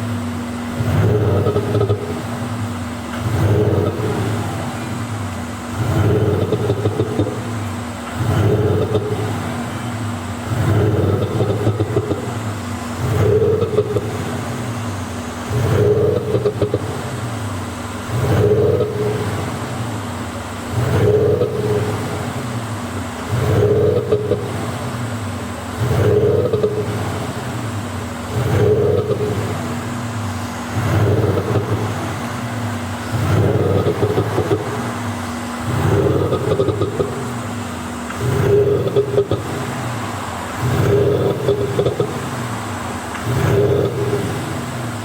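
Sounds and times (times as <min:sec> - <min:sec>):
diesel car engine revving: 0:00.0 - 0:45.0
exhaust pops and crackles: 0:00.0 - 0:45.0.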